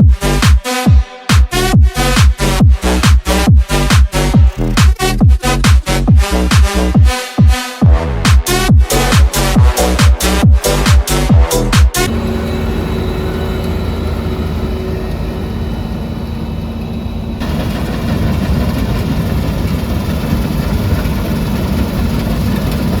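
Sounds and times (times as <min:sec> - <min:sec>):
heavy diesel engine running: 0:01.6 - 0:07.0, 0:08.6 - 0:23.0.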